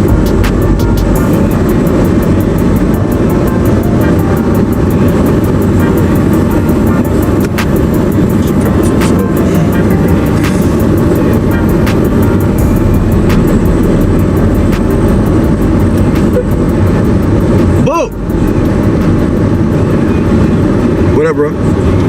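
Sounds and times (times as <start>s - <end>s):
car rumbling in motion: 0.0s - 22.0s.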